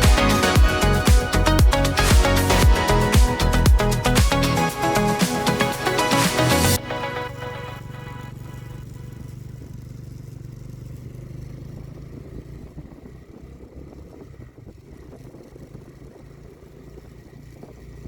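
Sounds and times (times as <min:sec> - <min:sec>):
motorcycle engine running: 0:00.0 - 0:05.2, 0:06.6 - 0:18.0.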